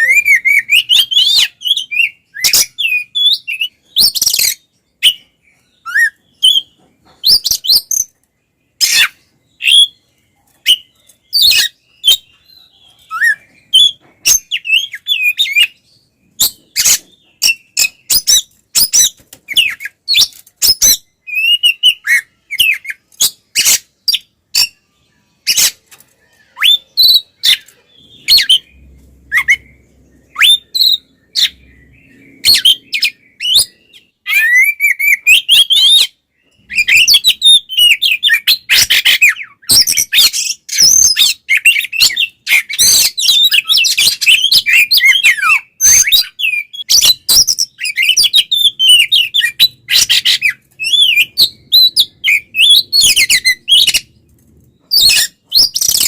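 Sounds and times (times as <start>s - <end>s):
magpie-robin singing: 0.0s - 56.0s.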